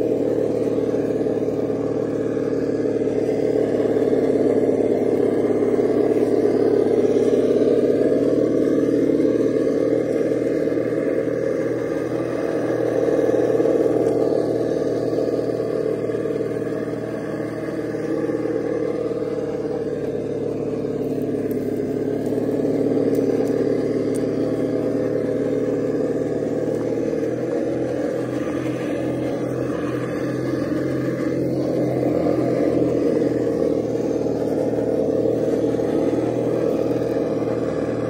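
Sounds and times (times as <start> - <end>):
simulated engine sound: 0.0 - 38.0.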